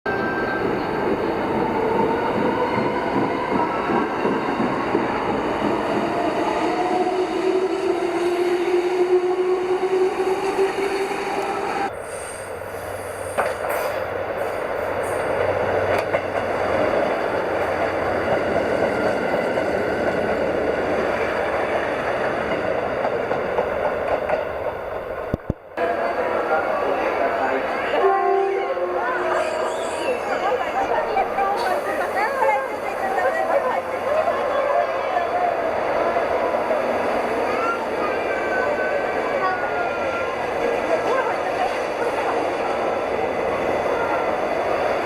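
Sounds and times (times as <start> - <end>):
train rolling rumble: 0.2 - 45.0.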